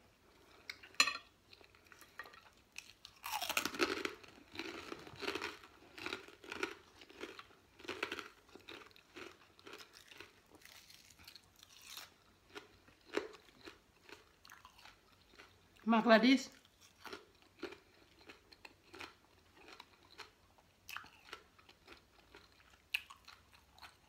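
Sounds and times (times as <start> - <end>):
chewing crisp vegetables: 0.2 - 24.0.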